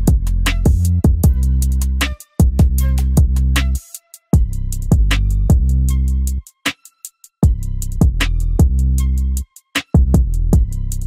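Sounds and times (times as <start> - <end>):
drum beat with heavy bass: 0.0 - 11.0.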